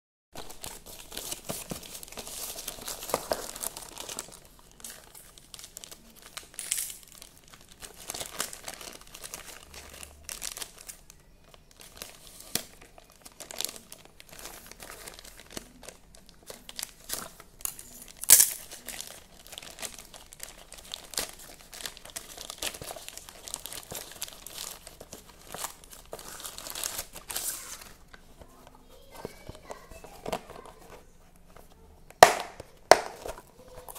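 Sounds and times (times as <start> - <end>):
plastic bag crinkling and rustling: 0.4 - 33.9
plastic tearing: 0.4 - 33.9.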